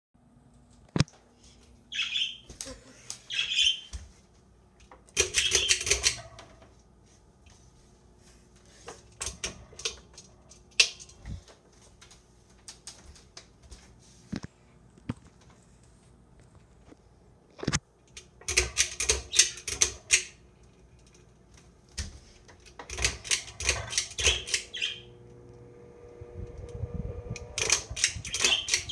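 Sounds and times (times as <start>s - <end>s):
ceiling fan humming: 0.2s - 28.9s.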